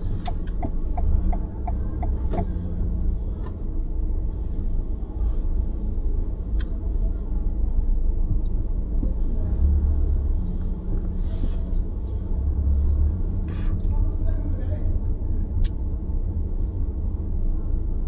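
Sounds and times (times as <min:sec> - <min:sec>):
car cabin road and engine rumble: 0:00.0 - 0:18.0.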